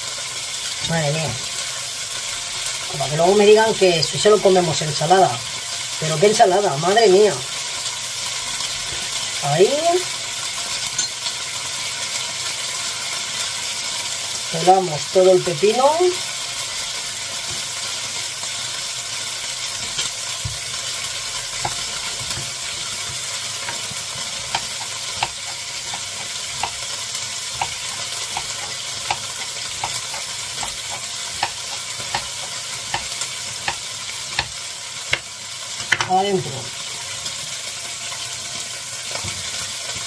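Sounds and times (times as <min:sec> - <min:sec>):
food sizzling in a frying pan: 0:00.0 - 0:40.0.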